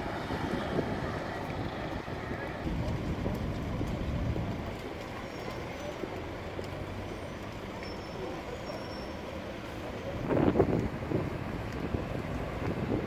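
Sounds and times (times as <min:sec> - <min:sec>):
idling vehicle engines rumble: 0:00.0 - 0:13.0.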